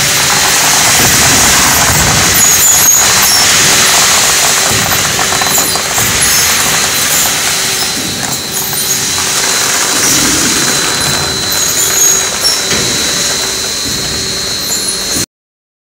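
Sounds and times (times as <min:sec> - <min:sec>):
low machine hum: 0:00.0 - 0:15.2
popcorn rattling in rotating drum: 0:00.0 - 0:15.2
machinery hiss and whine: 0:00.0 - 0:15.3.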